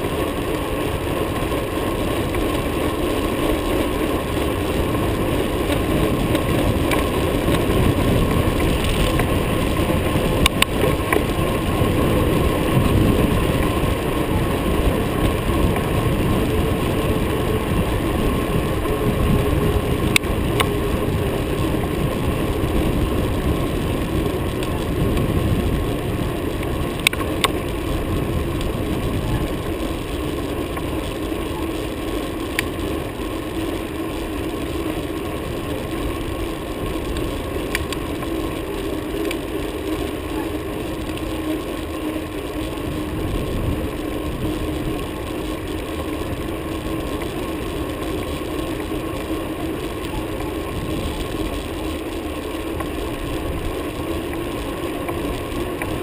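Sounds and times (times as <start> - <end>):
wind buffeting microphone: 0.0 - 41.7, 42.3 - 56.0
bicycle tyres on asphalt: 0.0 - 56.0
bike clicks: 0.0 - 56.0.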